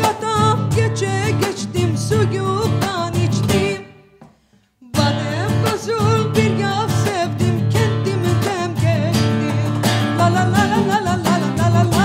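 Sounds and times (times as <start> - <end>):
woman singing: 0.0 - 4.2, 4.8 - 12.0
acoustic guitar strumming: 0.0 - 12.0.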